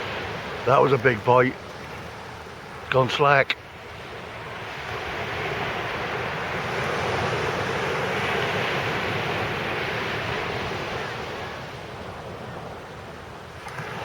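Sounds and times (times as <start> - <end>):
wave breaking on beach: 0.0 - 14.0.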